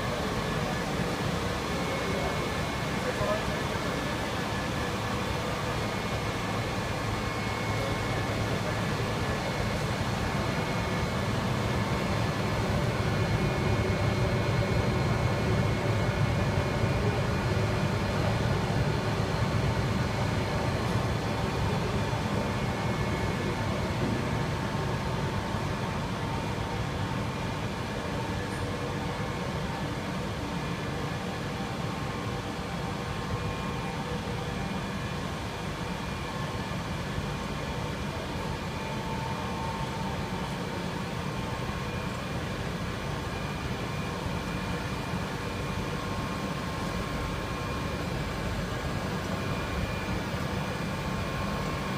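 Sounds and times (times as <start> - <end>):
hum of motors and blowers: 0.0 - 51.9
steady machine whining tones: 0.0 - 51.9.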